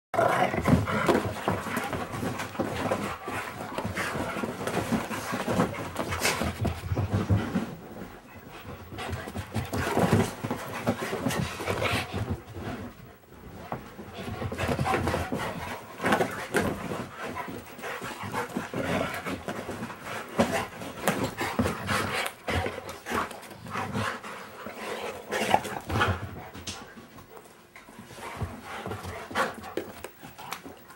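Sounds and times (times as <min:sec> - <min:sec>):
dog panting: 0:00.6 - 0:30.9.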